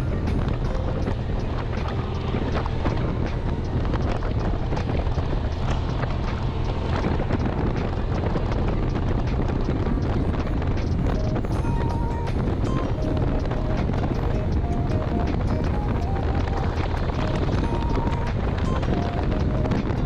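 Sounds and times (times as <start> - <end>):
motorcycle engine cruising: 0.0 - 20.0
wind buffeting microphone: 0.0 - 20.0.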